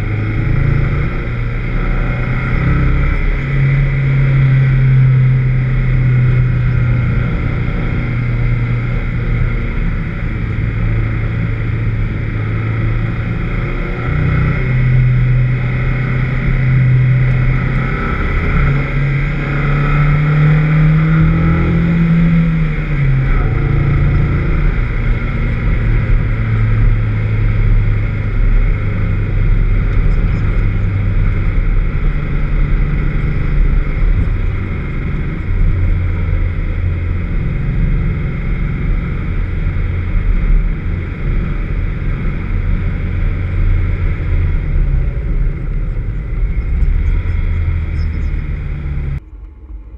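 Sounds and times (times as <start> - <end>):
car engine running hard: 0.0 - 49.9.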